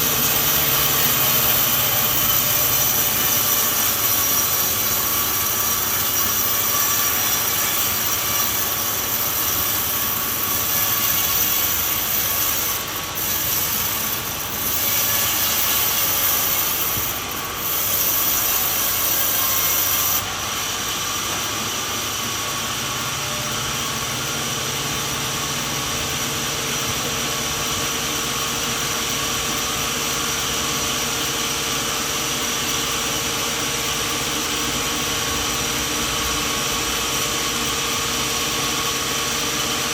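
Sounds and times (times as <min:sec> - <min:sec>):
saw cutting log with hiss: 0:00.0 - 0:39.9
sawmill machine humming: 0:00.0 - 0:39.9.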